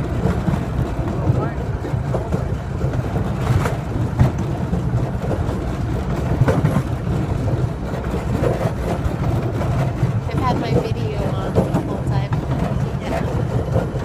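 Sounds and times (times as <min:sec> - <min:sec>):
miniature train rumbling: 0:00.0 - 0:14.0.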